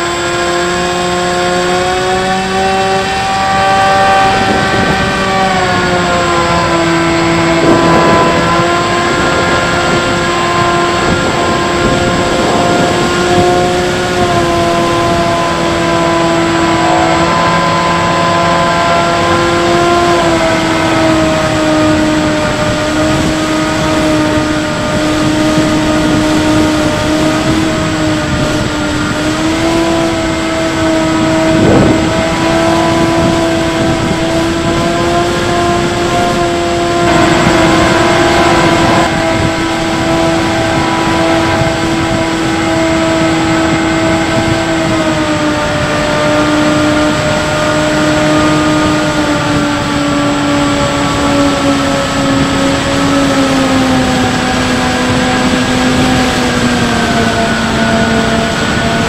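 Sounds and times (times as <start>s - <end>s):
electric motor and propeller whine: 0.0s - 59.0s
rushing air: 2.3s - 59.0s.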